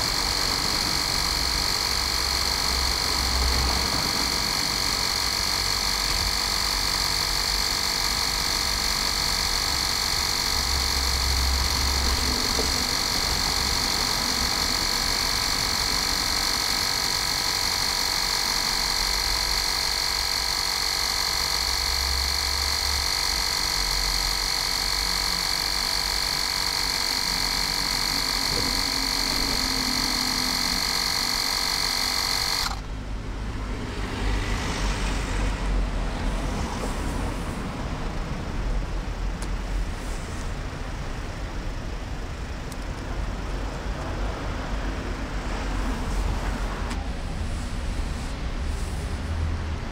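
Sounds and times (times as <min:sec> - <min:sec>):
mini compressor whining: 0:00.0 - 0:49.9.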